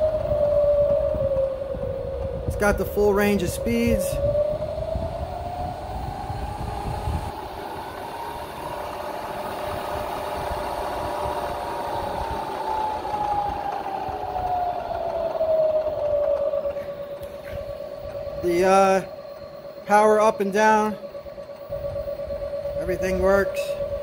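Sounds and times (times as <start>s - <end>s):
milling machine spindle whine: 0.0s - 24.0s.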